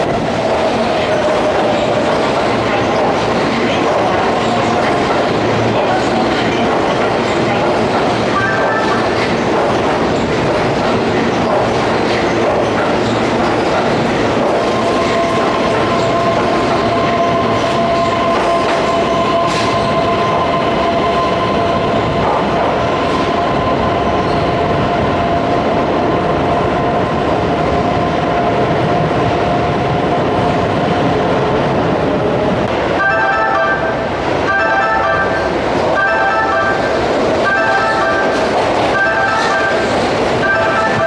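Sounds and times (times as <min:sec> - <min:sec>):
train wheels rumbling on rails: 0:00.0 - 0:33.0, 0:35.3 - 0:41.0.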